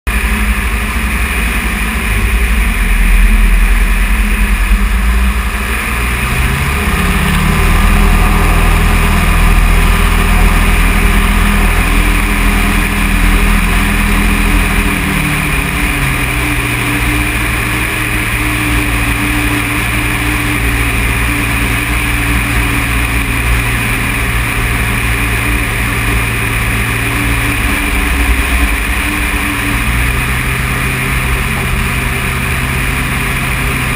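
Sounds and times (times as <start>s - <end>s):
light aircraft engine droning: 0.1s - 33.9s.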